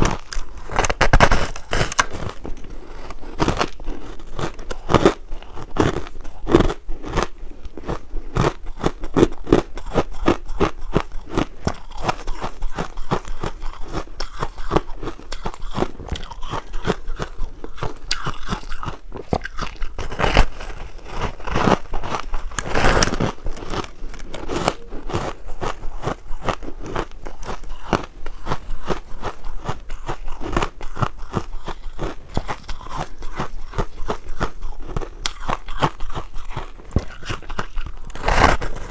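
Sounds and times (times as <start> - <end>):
person crunching ice: 0.0 - 38.9.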